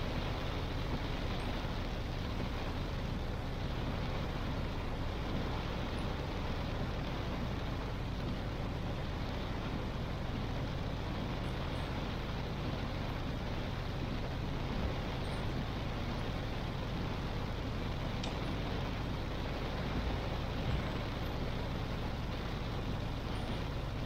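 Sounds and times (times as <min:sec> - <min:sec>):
low engine hum: 0:00.0 - 0:24.0
rain and tyres hissing on wet road: 0:00.0 - 0:24.0.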